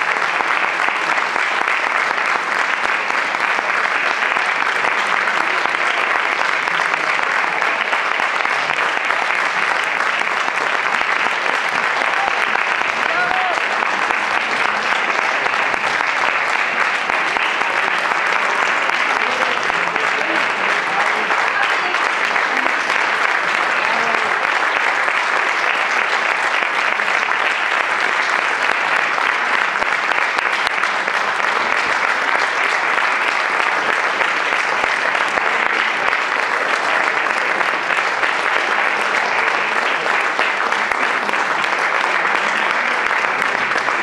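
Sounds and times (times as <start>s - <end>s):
audience applause: 0.0s - 44.0s.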